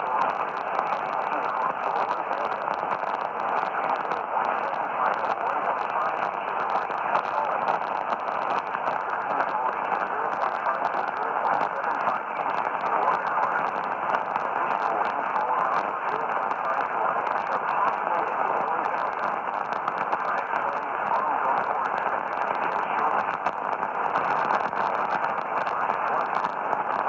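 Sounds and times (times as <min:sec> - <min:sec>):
faint crackle: 0:00.0 - 0:27.0
radio static hiss: 0:00.0 - 0:27.0.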